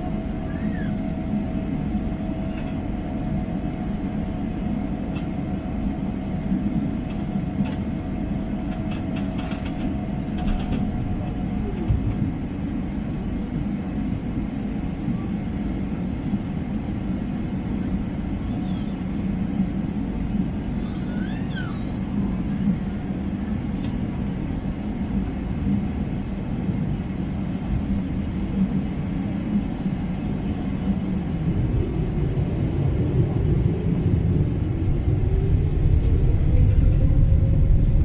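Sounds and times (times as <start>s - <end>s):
jet engine high whine: 0.0s - 38.0s
jet engine low rumble: 0.0s - 38.0s.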